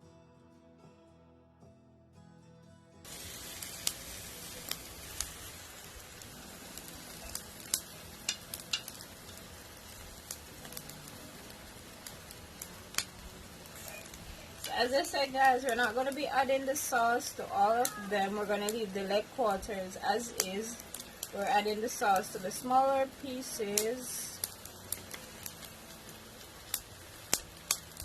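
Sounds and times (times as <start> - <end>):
soft music: 0.0 - 28.0
chicken sizzling on a grill: 3.0 - 28.0.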